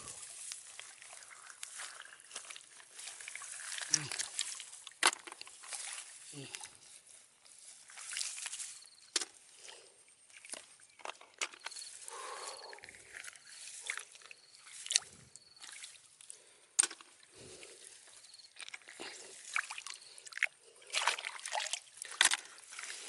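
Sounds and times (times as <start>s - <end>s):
water sloshing and splashing: 0.0s - 6.8s, 7.6s - 23.0s.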